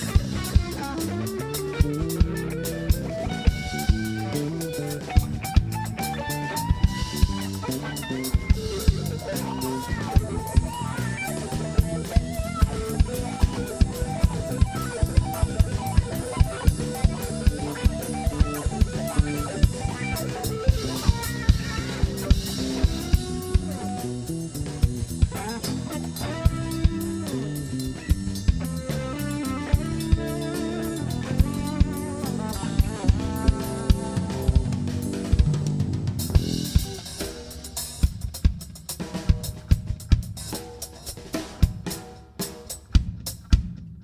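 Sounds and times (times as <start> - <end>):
guitar: 0.0 - 43.0
drum kit beat: 0.0 - 44.0.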